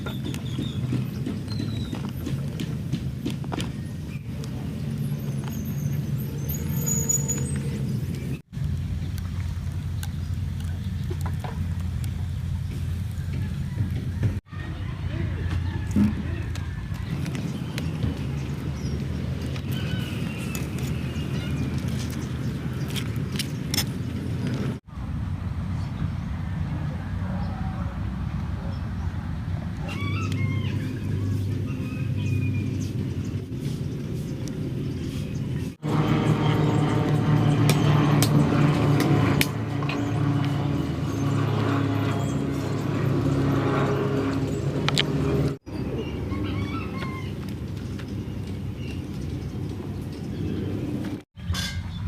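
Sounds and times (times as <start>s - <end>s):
low motor rumble: 0.0s - 51.2s
engine running: 0.0s - 51.3s.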